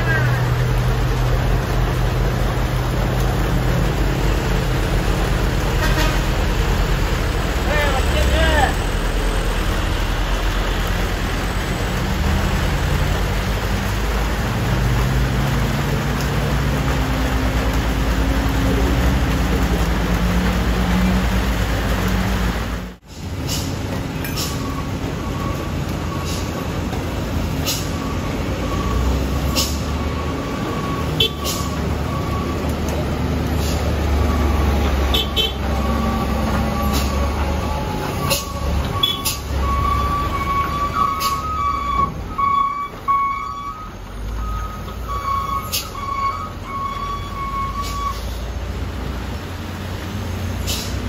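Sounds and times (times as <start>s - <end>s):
truck diesel engines labouring: 0.0s - 51.0s
tyres hissing on wet road: 0.0s - 51.0s.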